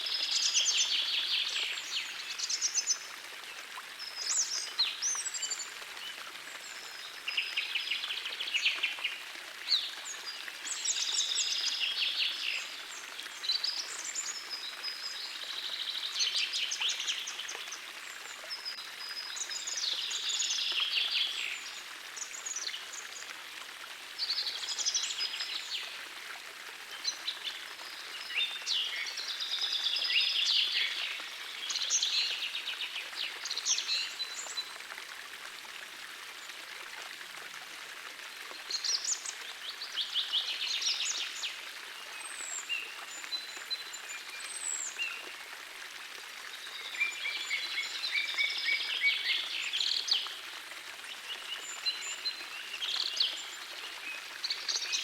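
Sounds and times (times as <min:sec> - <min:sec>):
gentle stream rushing: 0:00.0 - 0:55.0.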